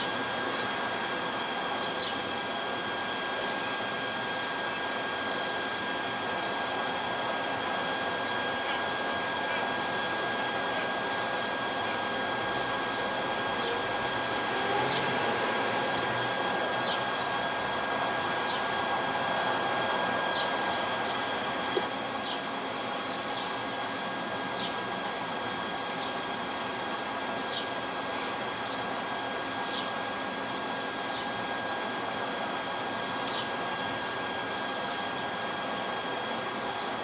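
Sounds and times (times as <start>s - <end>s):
constant high whine: 0.0s - 37.0s.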